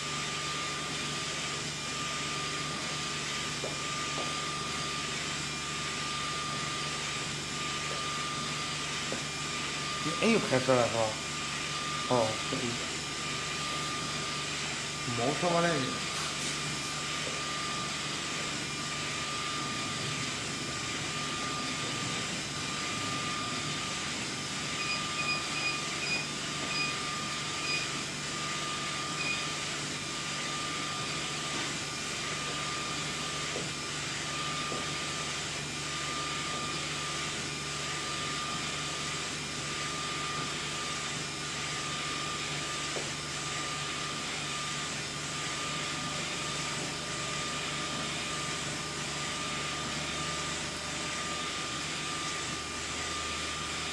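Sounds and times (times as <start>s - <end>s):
printer machine hum: 0.0s - 53.9s.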